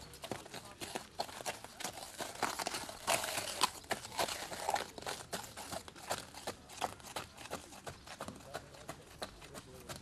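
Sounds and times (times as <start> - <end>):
footsteps on gravel: 0.0 - 10.0
horse hooves on gravel: 0.0 - 10.0.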